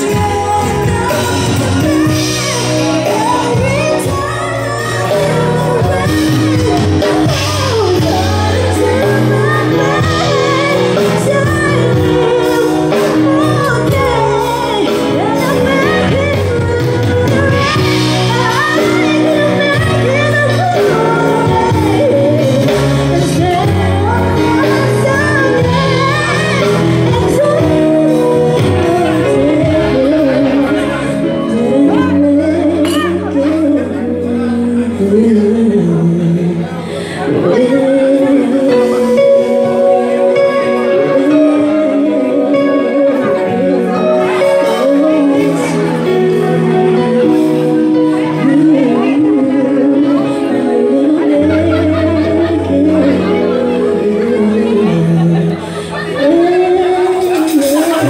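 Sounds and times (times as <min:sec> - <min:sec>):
live pop band playing: 0:00.0 - 0:58.0
woman singing: 0:00.0 - 0:58.0.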